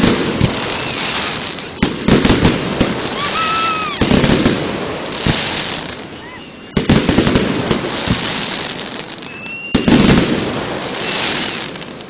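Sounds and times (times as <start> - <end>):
fireworks booms: 0.0 - 6.1, 6.7 - 12.0
fireworks crackling: 0.0 - 12.0
whistling firework: 0.0 - 12.0.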